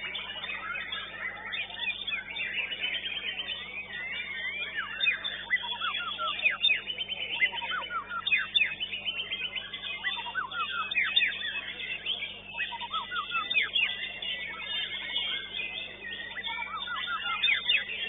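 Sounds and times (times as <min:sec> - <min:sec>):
songbird whistling rapid notes: 0:00.0 - 0:18.0.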